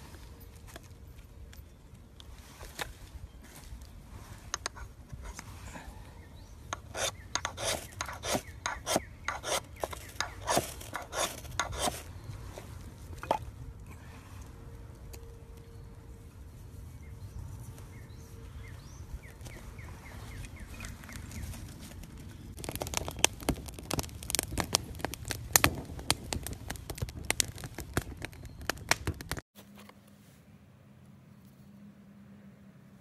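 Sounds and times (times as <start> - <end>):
twigs crackling in fire: 0.0 - 29.4.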